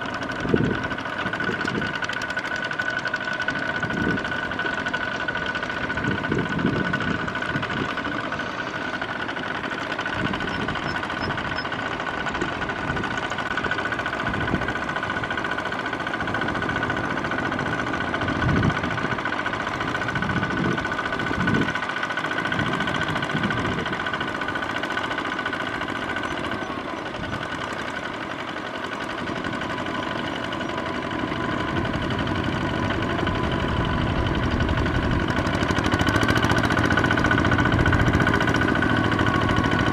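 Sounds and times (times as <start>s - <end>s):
diesel engine running under load: 0.0s - 39.9s
wheels churning through mud: 0.0s - 39.9s.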